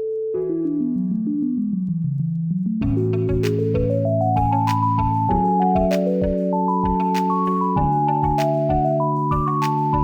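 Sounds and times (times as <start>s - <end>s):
ambient house music: 1.2s - 10.0s.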